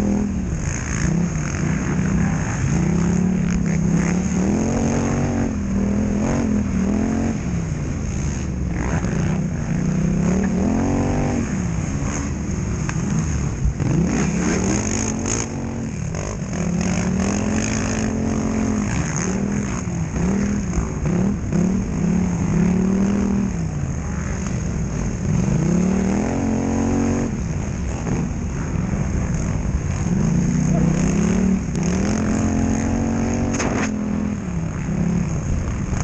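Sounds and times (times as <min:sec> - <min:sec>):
quad engine revving: 0:00.0 - 0:36.0.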